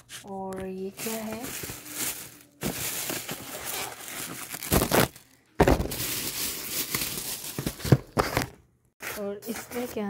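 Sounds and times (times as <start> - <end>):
food packaging rustling: 0.3 - 8.6.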